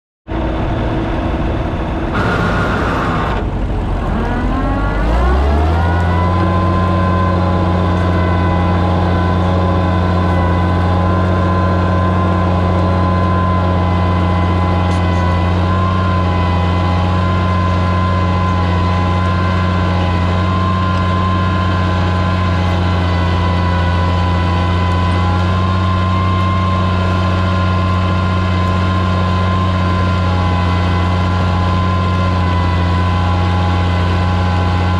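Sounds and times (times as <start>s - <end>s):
tractor engine pulling a plow: 0.3s - 34.9s.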